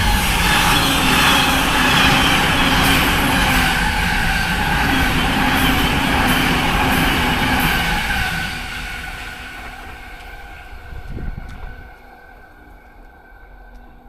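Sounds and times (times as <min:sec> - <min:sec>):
electric train passing at speed: 0:00.0 - 0:14.0.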